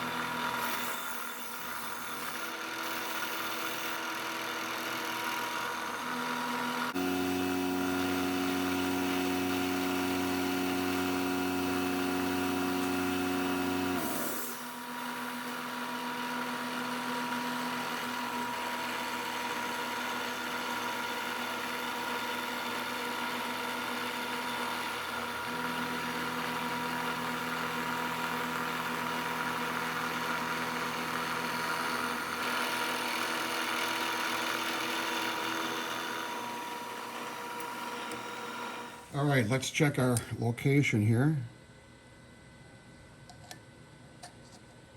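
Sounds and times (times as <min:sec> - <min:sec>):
milling machine humming: 0:00.0 - 0:39.5.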